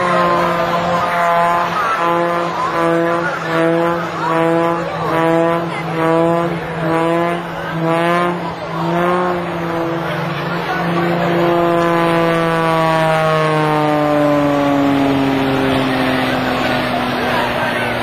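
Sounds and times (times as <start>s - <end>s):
propeller plane engine pulsing: 0.0s - 18.0s
steady low drone: 0.0s - 18.0s.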